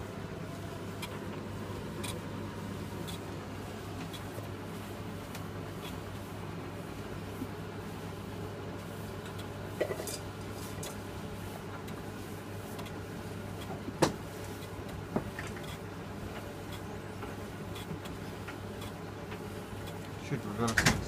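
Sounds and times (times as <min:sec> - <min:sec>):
tumble dryer motor hum: 0:00.0 - 0:21.0.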